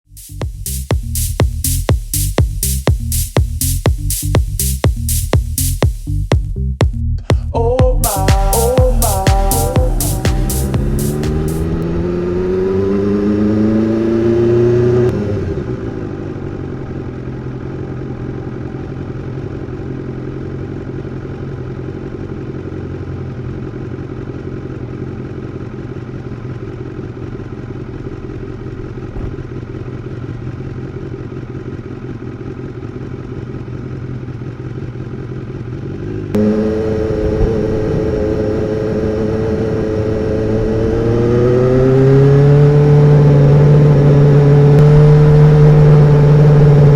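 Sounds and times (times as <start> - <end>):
motorcycle engine revving and idling: 0.0 - 46.9.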